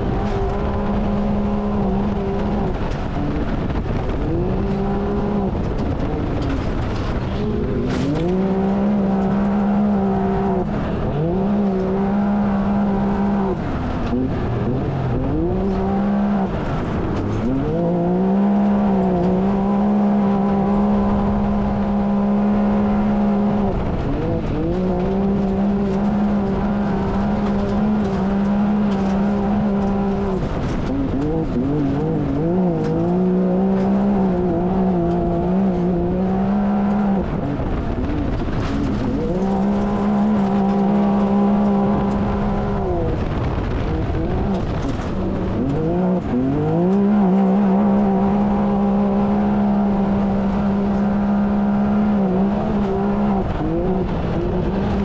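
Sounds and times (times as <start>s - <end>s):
engine running hard: 0.0s - 55.0s.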